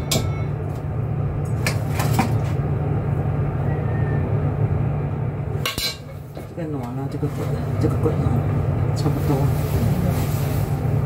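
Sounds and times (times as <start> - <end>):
low rumble of cooking equipment: 0.0 - 11.0.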